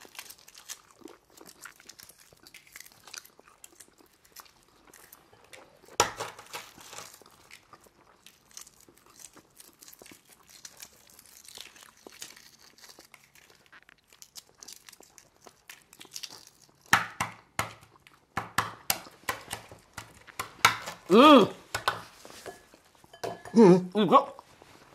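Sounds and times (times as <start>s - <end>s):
eggshells cracking and peeling: 0.0s - 21.1s.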